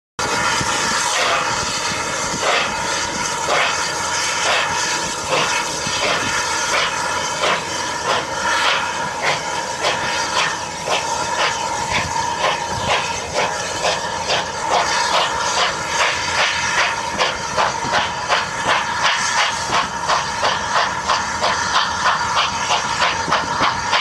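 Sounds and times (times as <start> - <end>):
steam locomotive exhaust chuffs: 0.2 - 24.0.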